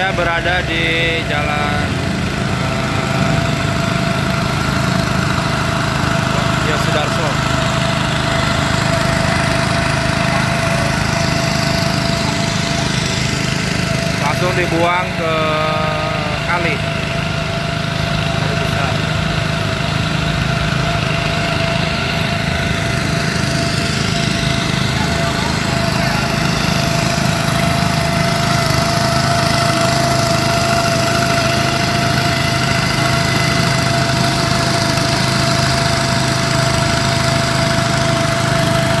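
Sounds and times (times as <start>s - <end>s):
pump engine running: 0.0s - 39.0s
steady whine: 0.0s - 39.0s.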